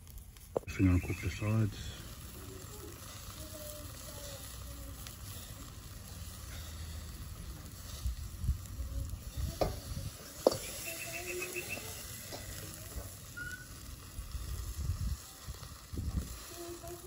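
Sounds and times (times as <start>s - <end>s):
steak sizzling on grill: 0.0s - 17.0s.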